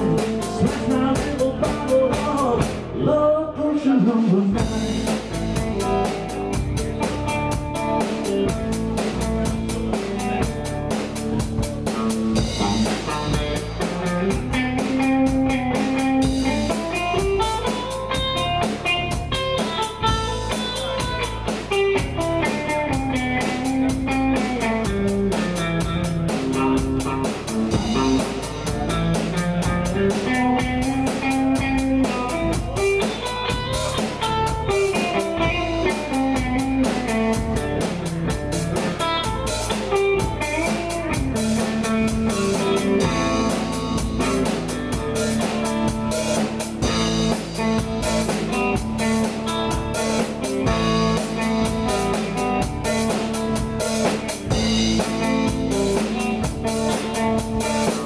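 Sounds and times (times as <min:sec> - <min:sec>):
drum kit with cymbals: 0:00.0 - 0:03.0, 0:04.2 - 0:58.0
electric guitar melody: 0:00.0 - 0:03.1, 0:04.5 - 0:58.0.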